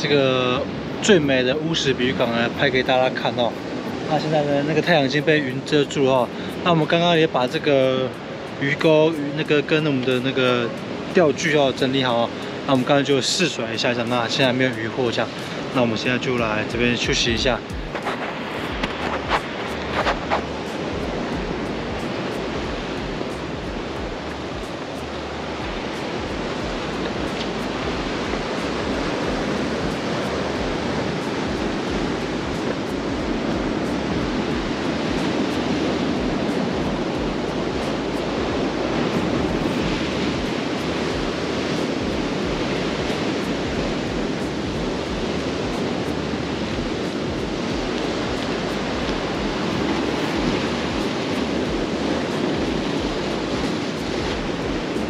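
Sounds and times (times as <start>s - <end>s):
surf washing on rocky shore: 0.0s - 55.0s.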